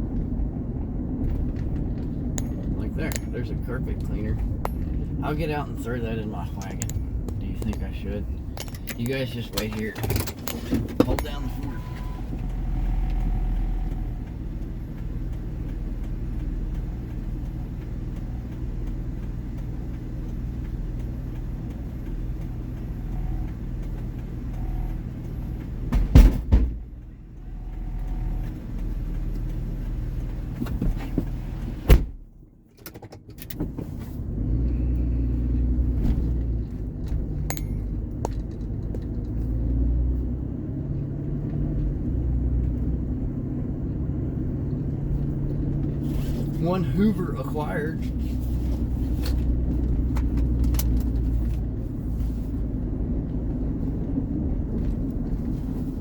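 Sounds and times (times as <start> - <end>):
vehicle engine idling: 0.0 - 32.7, 33.6 - 56.0.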